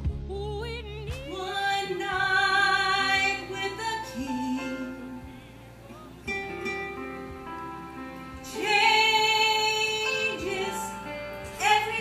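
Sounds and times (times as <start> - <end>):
plucked strings backing track: 0.0 - 12.0.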